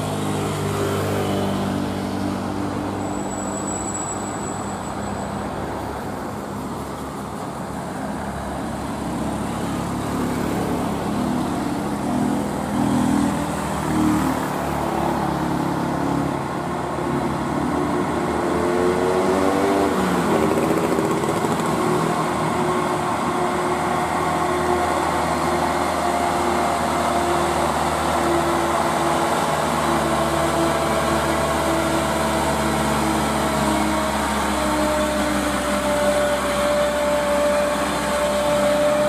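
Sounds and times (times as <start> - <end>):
diesel truck engine pulling hard: 0.0 - 39.0.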